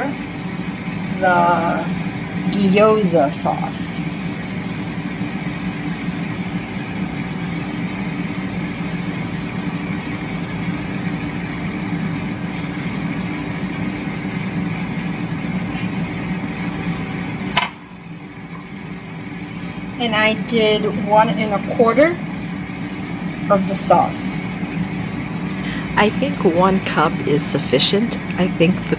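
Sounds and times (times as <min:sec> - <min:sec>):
mechanical hum with hiss: 0:00.0 - 0:28.9.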